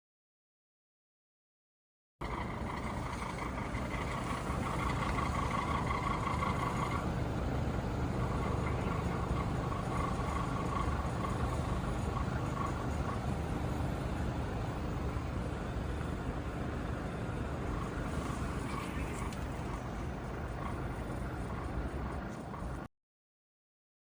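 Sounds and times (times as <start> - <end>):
air conditioner unit rumbling: 2.2 - 22.9
whining tone: 2.2 - 22.9.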